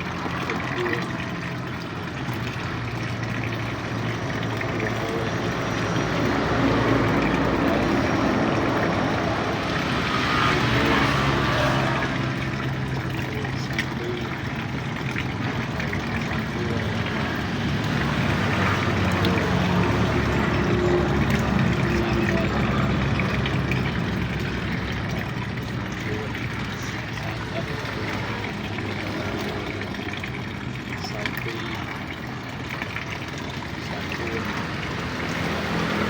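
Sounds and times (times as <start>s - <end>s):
engine running: 0.0s - 36.0s
noisy rush: 0.0s - 36.0s.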